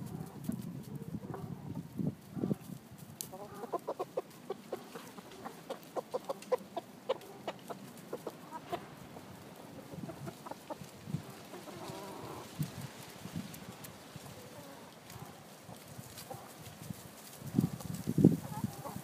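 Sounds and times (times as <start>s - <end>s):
chickens clucking: 0.0s - 12.9s, 13.6s - 19.0s.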